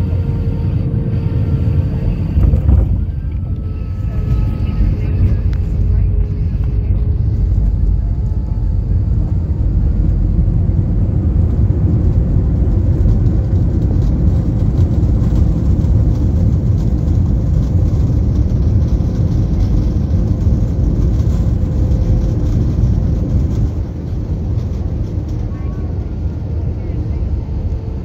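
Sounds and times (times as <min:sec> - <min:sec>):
jet engine and airflow rumble: 0:00.0 - 0:28.0.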